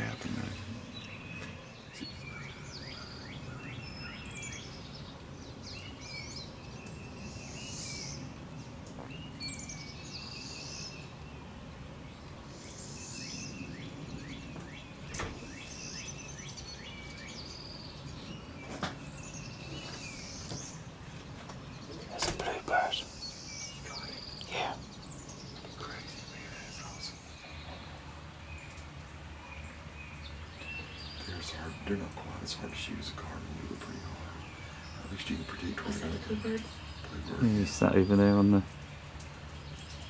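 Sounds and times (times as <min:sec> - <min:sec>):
low background noise: 0:00.0 - 0:40.0
songbirds singing and chirping: 0:00.0 - 0:40.0.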